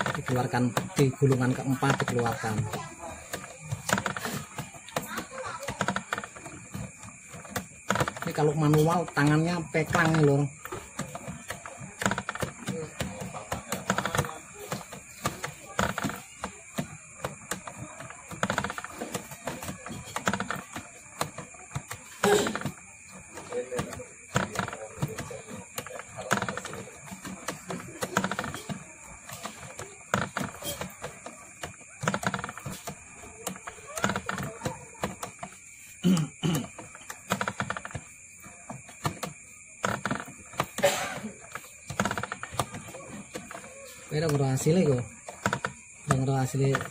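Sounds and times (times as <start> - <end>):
coil winder clicking and rattling: 0.0 - 46.9.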